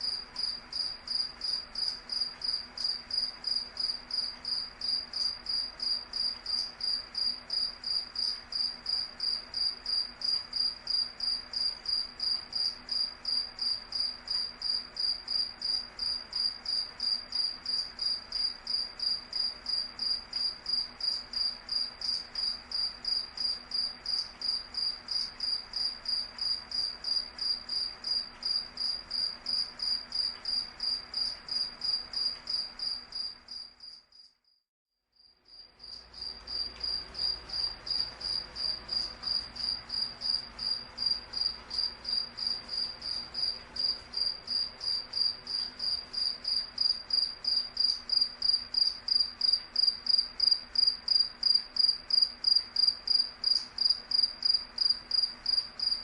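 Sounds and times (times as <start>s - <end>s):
cricket chirping: 0.0s - 34.6s, 35.2s - 56.0s.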